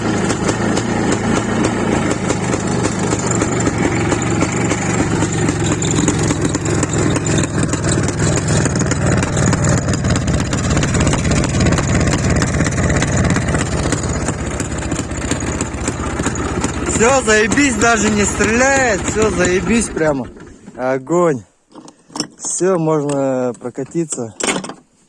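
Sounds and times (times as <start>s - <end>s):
motorcycle engine idling: 0.0s - 20.7s.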